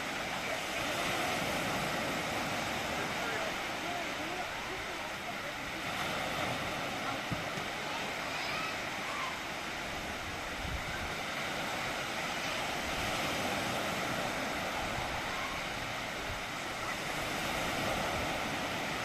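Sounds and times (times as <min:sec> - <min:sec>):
sea waves washing onto beach: 0:00.0 - 0:19.0.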